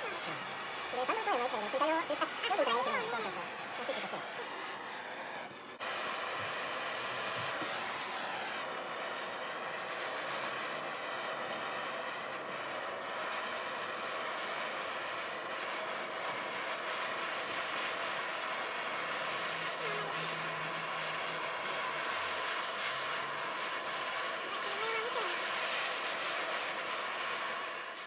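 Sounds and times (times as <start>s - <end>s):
gas torches hissing: 0.0s - 28.0s.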